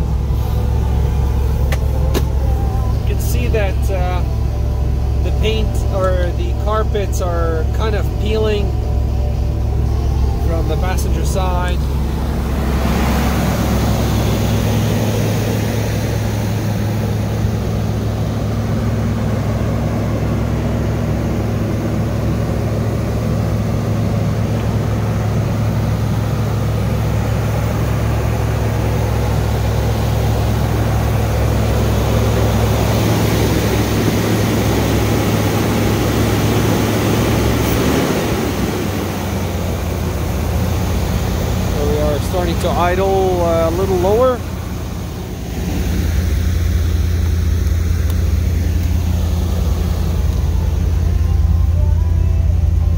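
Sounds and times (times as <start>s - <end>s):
car engine fast idle: 0.0s - 52.9s.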